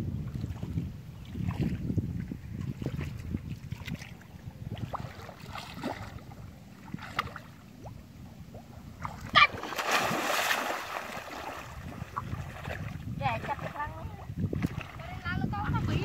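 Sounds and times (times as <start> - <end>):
people wading through muddy water: 0.0 - 16.0
rush of splashing: 2.6 - 16.0.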